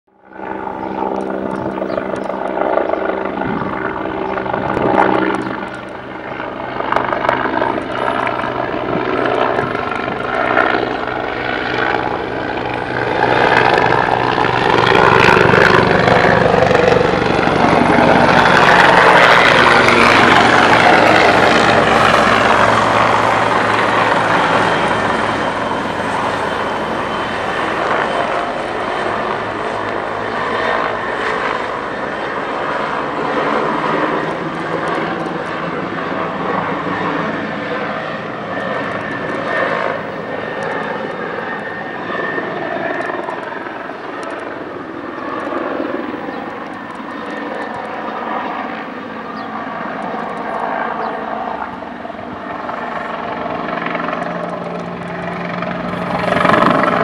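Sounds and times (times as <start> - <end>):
helicopter flying overhead: 0.1 - 57.0.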